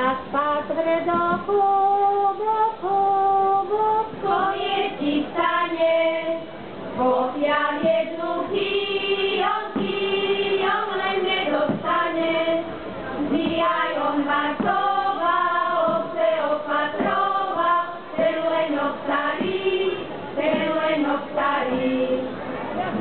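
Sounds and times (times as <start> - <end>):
choir singing: 3.8 - 23.0.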